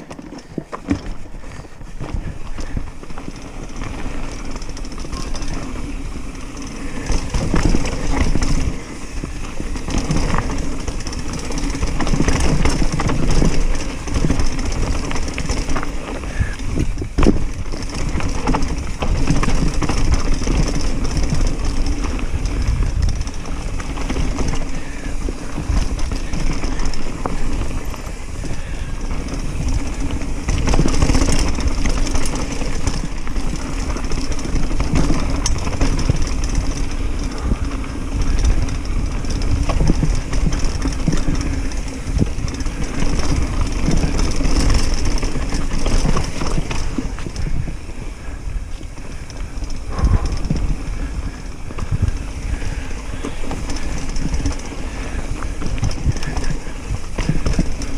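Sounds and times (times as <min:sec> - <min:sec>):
bike clattering and rattling: 0:00.0 - 0:57.9
tyres rolling on dirt: 0:00.0 - 0:57.9
wind buffeting microphone: 0:00.0 - 0:57.9.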